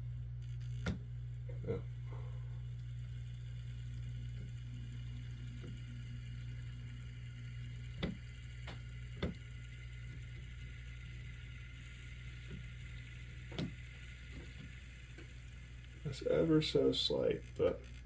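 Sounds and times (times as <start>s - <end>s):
model locomotive motor hum: 0.0s - 18.0s.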